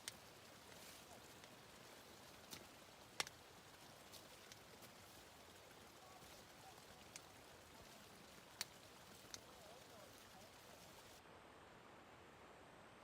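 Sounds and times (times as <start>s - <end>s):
sharp ticks: 0.0s - 11.2s
faint background hiss: 0.0s - 13.0s.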